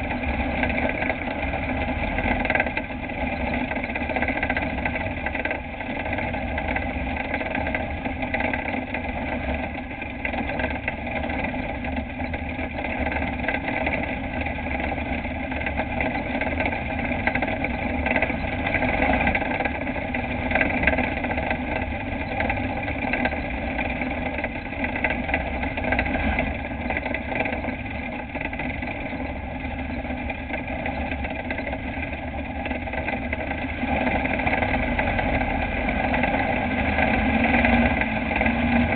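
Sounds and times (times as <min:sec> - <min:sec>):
truck engine droning: 0:00.0 - 0:38.9.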